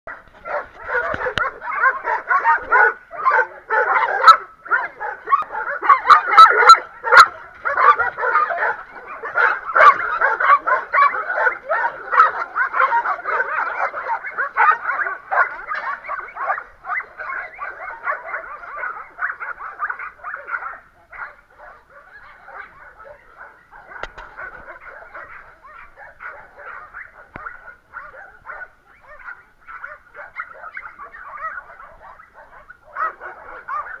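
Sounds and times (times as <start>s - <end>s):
many dogs barking: 0.1s - 34.0s.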